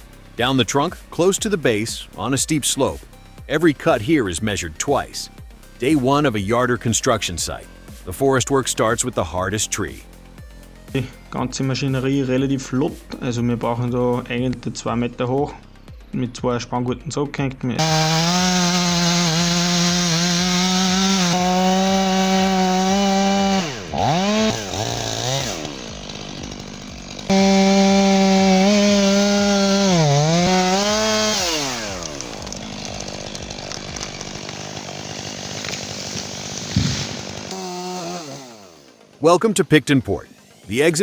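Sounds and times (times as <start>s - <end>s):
chainsaw cutting wood: 0.0s - 14.6s, 17.8s - 39.2s, 40.3s - 40.8s.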